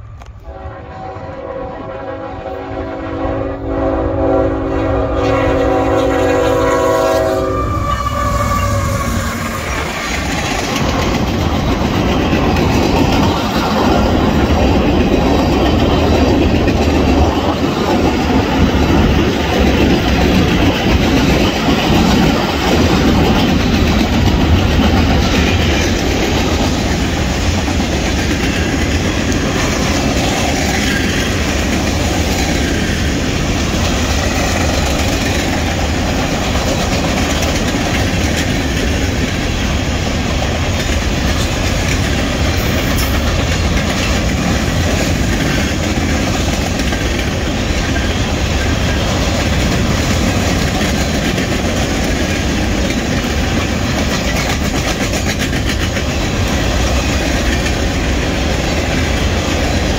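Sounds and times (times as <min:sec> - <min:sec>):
train wheels rolling on rail: 0:00.0 - 0:59.9.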